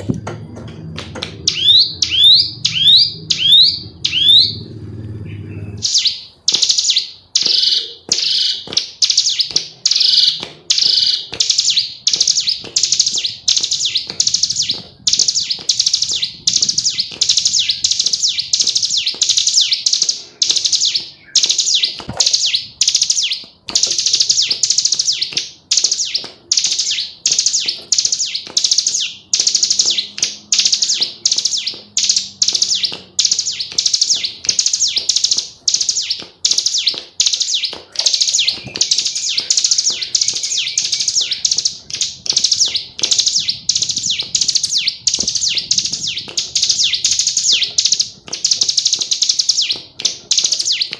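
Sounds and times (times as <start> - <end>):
bird chattering calls: 1.4 - 50.9.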